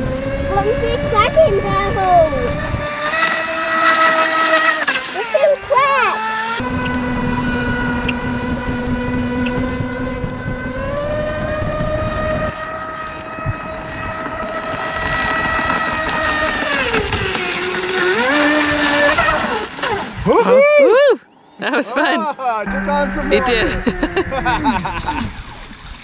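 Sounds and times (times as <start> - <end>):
electric motor whining: 0.0 - 20.4, 22.7 - 24.9
water rushing against hull: 0.0 - 20.6, 22.9 - 26.0.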